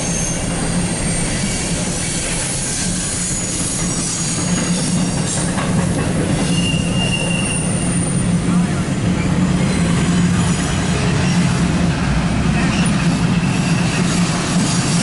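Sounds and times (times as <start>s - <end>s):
train wheels squealing: 0.0s - 8.6s, 9.2s - 11.6s, 12.6s - 15.0s
train wheels rumbling on rails: 0.0s - 15.0s.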